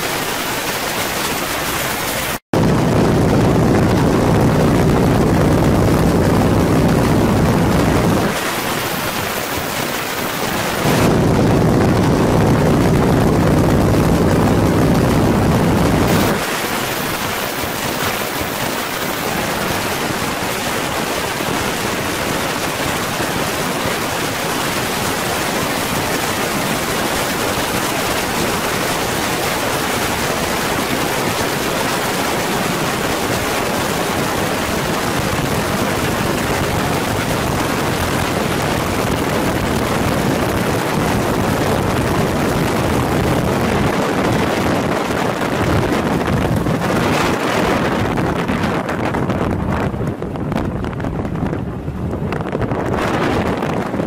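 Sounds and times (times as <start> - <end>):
rush of wind: 0.0 - 54.0
biplane radial engine running: 1.5 - 48.6.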